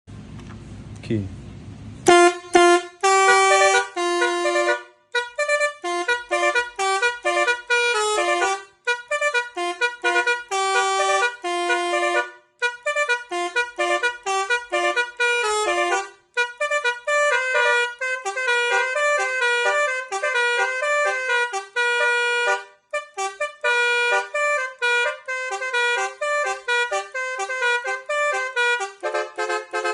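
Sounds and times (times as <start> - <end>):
musical bus horn playing a tune: 2.0 - 29.9.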